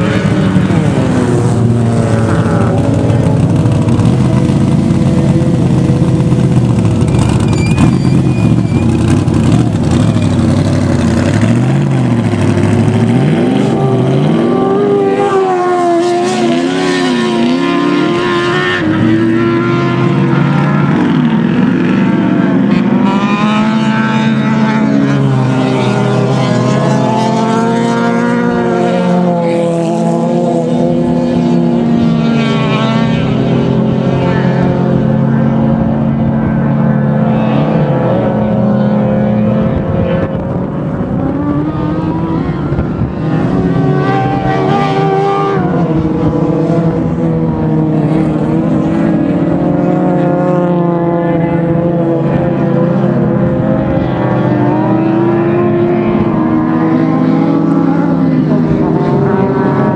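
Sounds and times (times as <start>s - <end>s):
racing engines revving: 0.0s - 59.9s.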